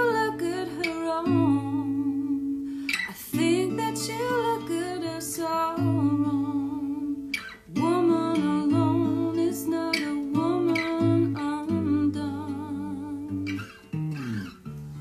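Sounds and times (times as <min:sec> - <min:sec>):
person singing: 0:00.0 - 0:13.7
acoustic guitar chords: 0:00.0 - 0:15.0.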